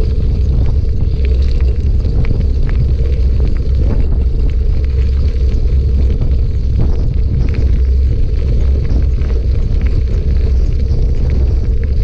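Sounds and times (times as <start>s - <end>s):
gravel ticks and rattles: 0.0s - 12.0s
wind and vibration rumble: 0.0s - 12.0s.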